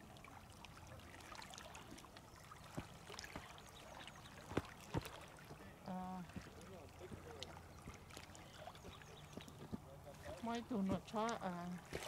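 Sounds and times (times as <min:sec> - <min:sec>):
faint water trickling: 0:00.0 - 0:12.0.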